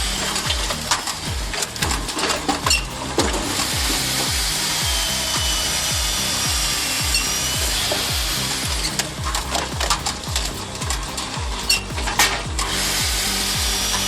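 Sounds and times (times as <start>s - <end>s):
background music with beat: 0.0s - 14.0s.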